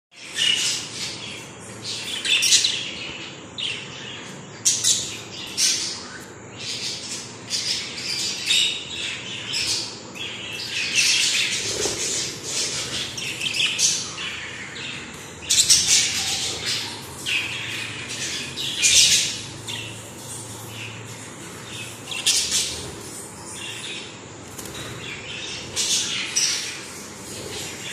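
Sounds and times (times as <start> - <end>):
budgerigars chattering: 3.7 - 27.9.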